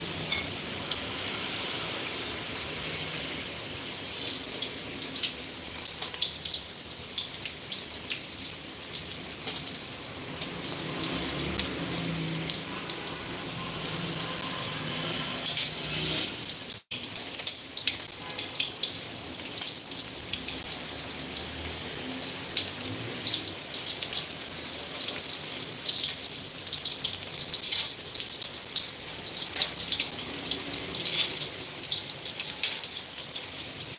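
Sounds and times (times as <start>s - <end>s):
hot oil sizzling and popping: 0.0s - 33.9s.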